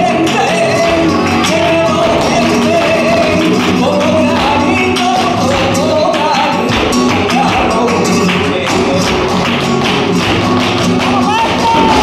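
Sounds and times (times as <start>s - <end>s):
person singing: 0.0s - 9.4s, 11.0s - 12.0s
flamenco guitar strumming: 0.0s - 12.0s
rhythmic hand clapping: 0.0s - 12.0s.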